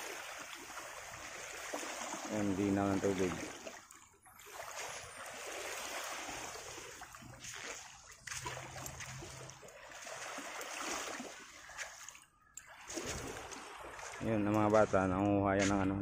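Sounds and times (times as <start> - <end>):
waves lapping on pebbles: 0.0 - 15.1.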